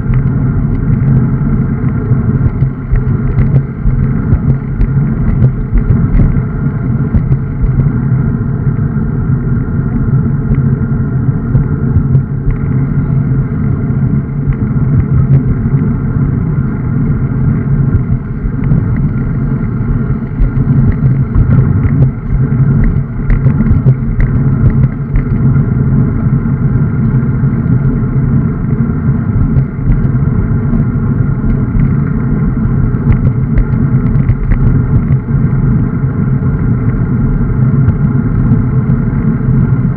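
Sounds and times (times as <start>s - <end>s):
road and tyre noise: 0.0s - 39.9s
wind rumbling on microphone: 0.0s - 39.9s.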